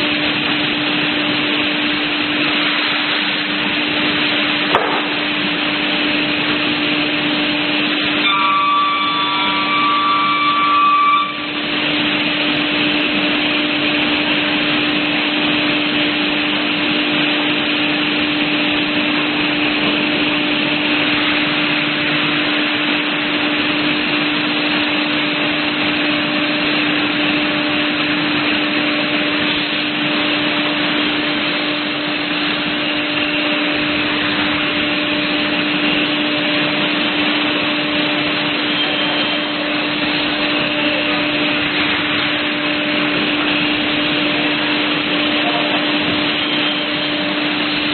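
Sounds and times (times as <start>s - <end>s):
multi-pitched whine: 0.0s - 47.9s.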